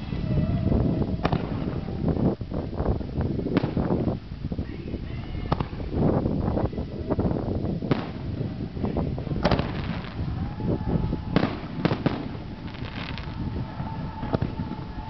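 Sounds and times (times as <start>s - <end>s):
fireworks bursting: 0.0s - 15.0s
low rumble: 0.0s - 15.0s.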